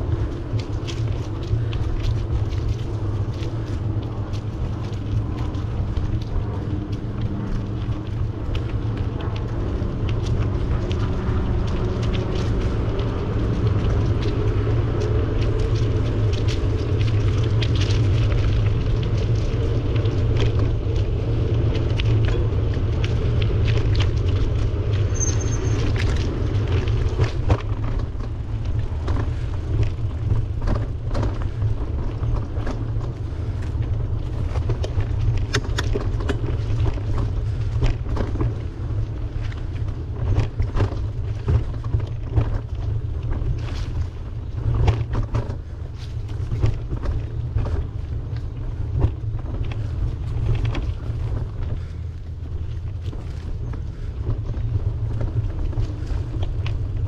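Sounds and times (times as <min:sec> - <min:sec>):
sharp clicks and rattles: 0:00.0 - 0:57.0
tyre and road noise: 0:00.0 - 0:57.0
wind buffeting microphone: 0:00.0 - 0:57.0.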